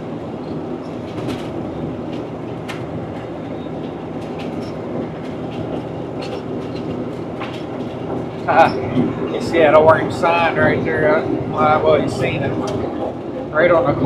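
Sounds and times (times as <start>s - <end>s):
diesel engine and tyre drone: 0.0s - 14.0s
sharp clicks and rattles: 0.8s - 13.4s.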